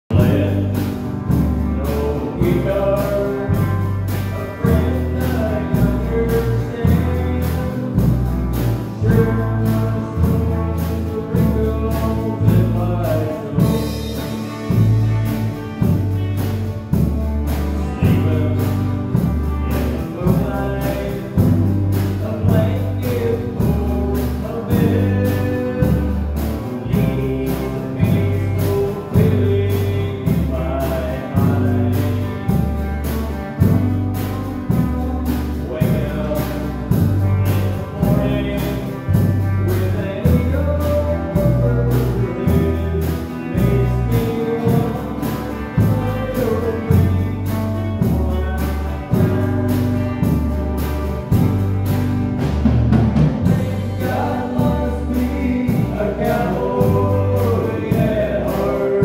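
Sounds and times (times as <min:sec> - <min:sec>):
man singing lead vocal: 0:00.0 - 0:51.6, 0:53.2 - 0:59.0
live rock band playing: 0:00.1 - 0:59.0.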